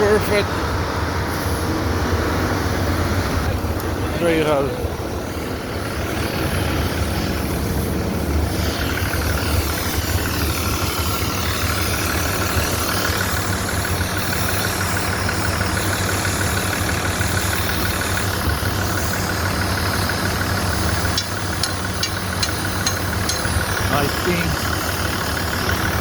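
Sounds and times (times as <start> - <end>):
heavy engine idling: 0.0 - 26.0.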